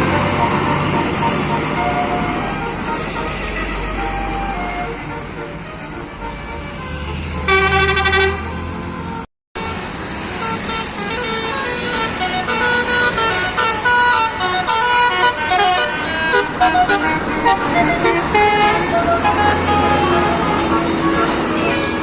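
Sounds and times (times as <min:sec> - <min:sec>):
bus engine running: 0:00.0 - 0:22.0
musical air horn: 0:00.0 - 0:22.0.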